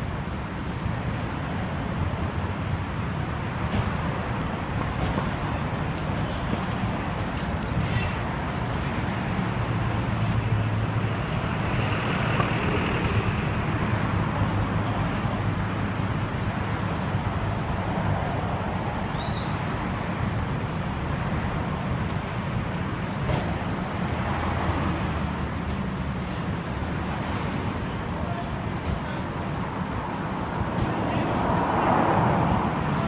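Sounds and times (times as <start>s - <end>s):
road traffic noise: 0.0s - 33.0s.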